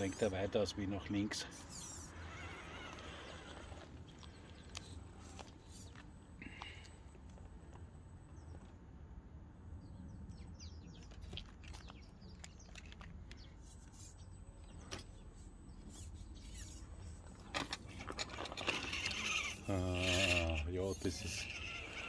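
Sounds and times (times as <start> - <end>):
faint electric motor hum: 0.0 - 22.0.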